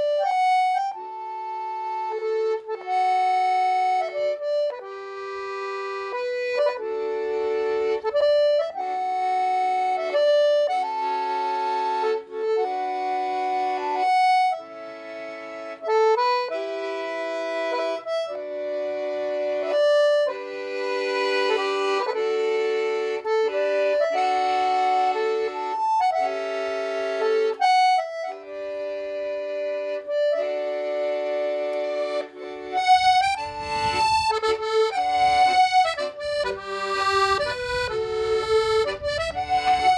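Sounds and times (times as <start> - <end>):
instrumental music with held chords: 0.0 - 39.9.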